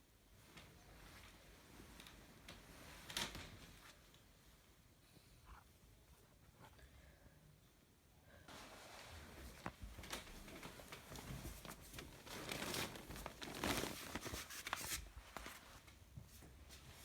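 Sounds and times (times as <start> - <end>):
rustling and handling noises: 0.0 - 6.9, 8.5 - 17.0.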